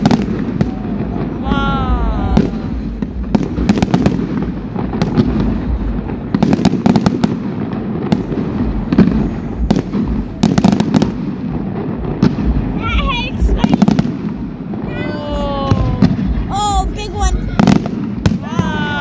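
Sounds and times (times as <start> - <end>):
steady low rumble: 0.0 - 18.6
fireworks bangs and crackles: 0.0 - 19.0.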